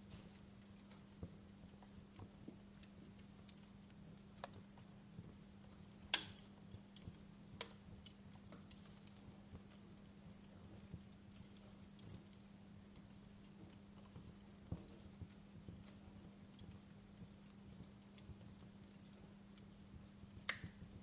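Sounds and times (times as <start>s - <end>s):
faint low hum: 0.0s - 21.0s
wood fire crackling: 0.0s - 21.0s.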